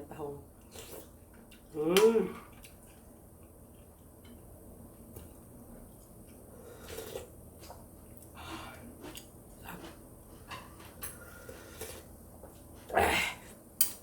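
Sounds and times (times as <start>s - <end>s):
soft chewing and mouth noises: 0.5s - 13.0s.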